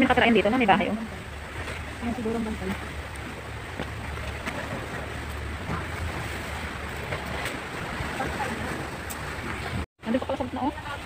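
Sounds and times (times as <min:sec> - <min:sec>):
sea waves: 0:00.0 - 0:11.0
wind rumbling on microphone: 0:00.0 - 0:11.0.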